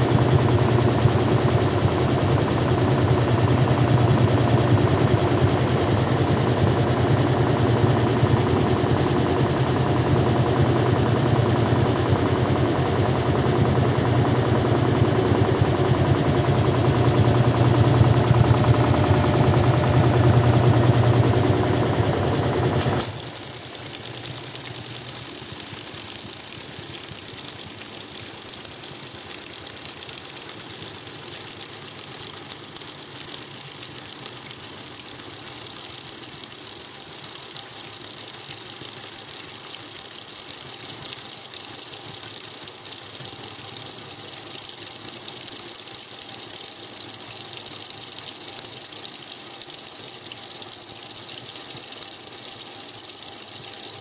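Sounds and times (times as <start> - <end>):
water pouring into washing machine: 0.0 - 54.0.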